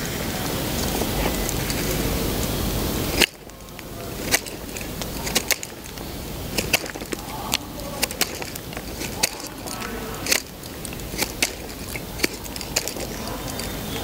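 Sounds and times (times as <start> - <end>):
campfire crackling and popping: 0.0 - 14.0
loud steady rushing noise: 0.0 - 14.0.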